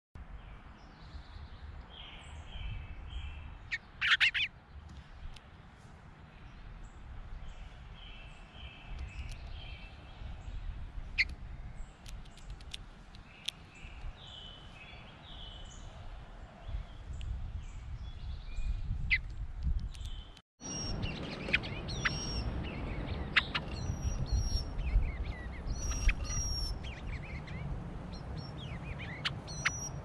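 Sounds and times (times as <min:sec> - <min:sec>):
birds singing: 0:00.2 - 0:05.4, 0:06.2 - 0:30.0.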